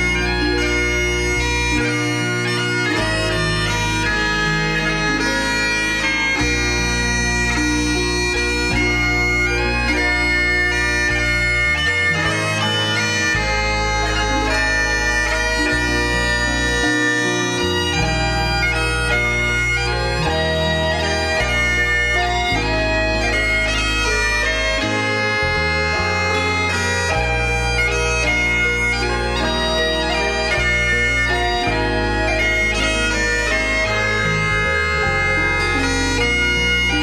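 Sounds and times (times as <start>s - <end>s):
bagpipe music: 0.0s - 37.0s.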